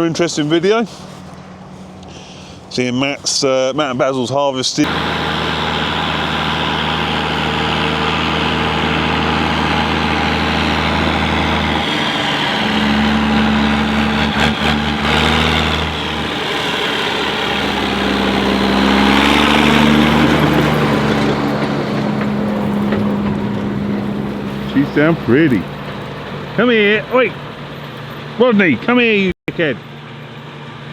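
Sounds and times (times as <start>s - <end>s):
diesel engine running: 4.8s - 30.9s.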